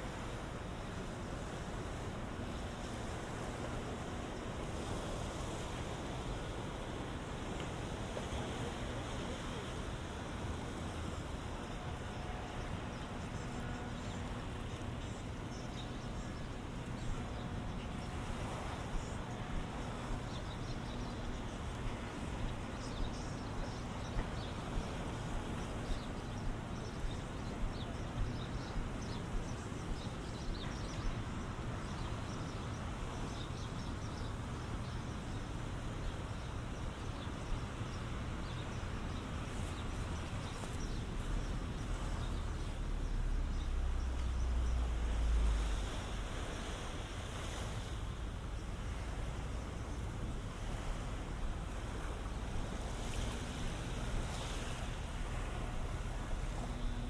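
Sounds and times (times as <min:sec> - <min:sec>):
ocean waves washing on beach: 0:00.0 - 0:57.0
wind buffeting microphone: 0:00.0 - 0:57.0.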